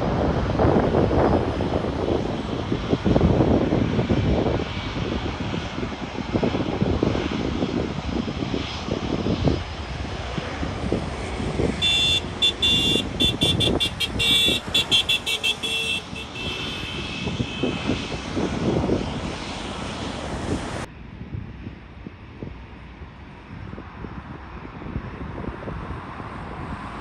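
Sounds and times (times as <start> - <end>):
jet airliner rumble: 0.0 - 27.0.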